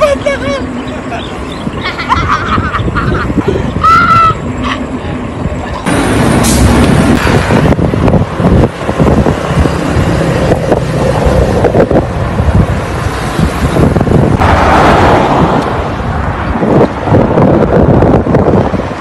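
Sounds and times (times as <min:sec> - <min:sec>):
wind buffeting microphone: 0:01.3 - 0:04.6, 0:05.2 - 0:19.0.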